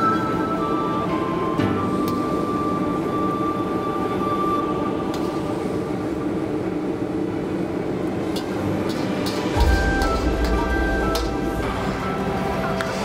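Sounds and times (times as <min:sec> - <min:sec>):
wok burner roaring: 0:00.0 - 0:13.0.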